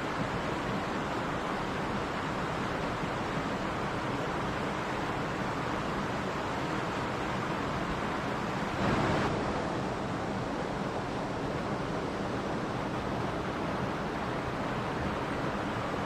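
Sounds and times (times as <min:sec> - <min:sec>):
mountain stream flowing: 0:00.0 - 0:16.0.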